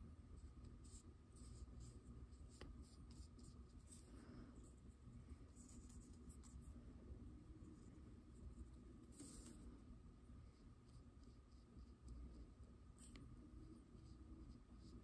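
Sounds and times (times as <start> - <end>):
low steady hum: 0.0 - 15.0
paintbrush strokes on paper: 0.4 - 15.0.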